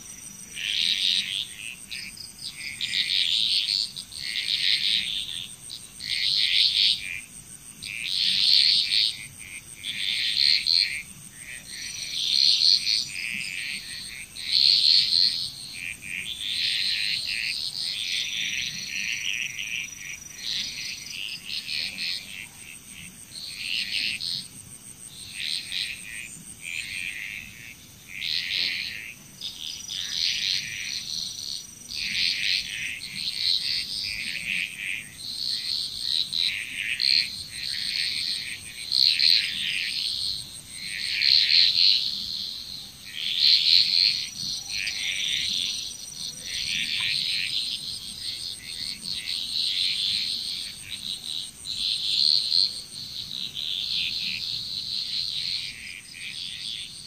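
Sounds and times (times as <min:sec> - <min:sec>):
frogs calling: 0:00.0 - 0:57.0.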